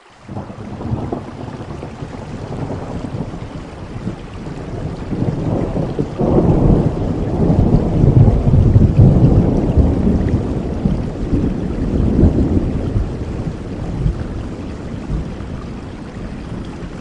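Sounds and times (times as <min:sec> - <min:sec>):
rain falling: 0:00.0 - 0:17.0
thunder rumbling: 0:00.3 - 0:17.0.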